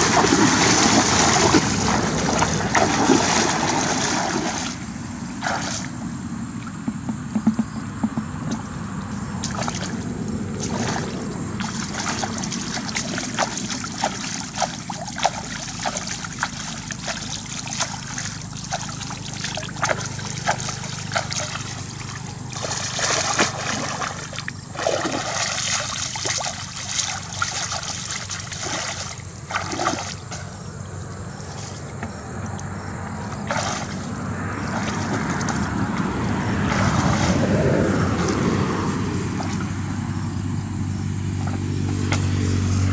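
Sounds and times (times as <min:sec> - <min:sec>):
muddy water splashing and sloshing: 0:00.0 - 0:07.6, 0:08.4 - 0:42.9
steady low hum: 0:00.0 - 0:42.9.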